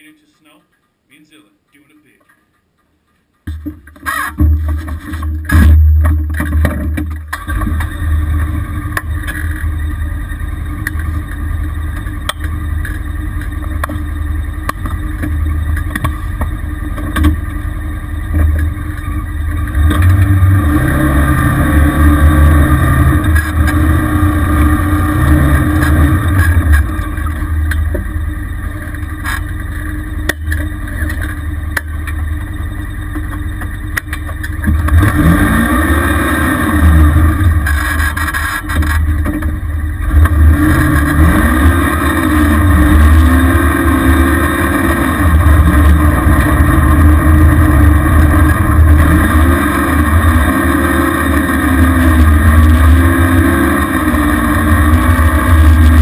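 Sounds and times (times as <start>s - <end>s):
atv engine revving: 3.5s - 56.0s.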